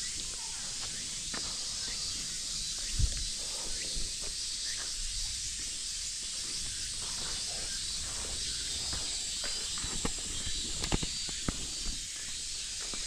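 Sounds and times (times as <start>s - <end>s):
cicadas hissing: 0.0s - 13.0s.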